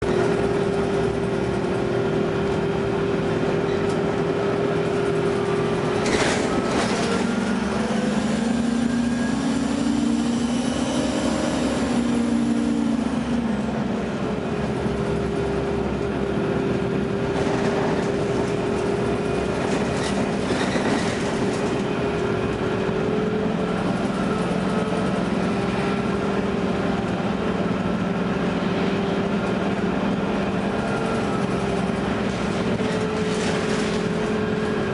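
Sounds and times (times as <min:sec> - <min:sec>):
bus engine running with whine: 0:00.0 - 0:34.9.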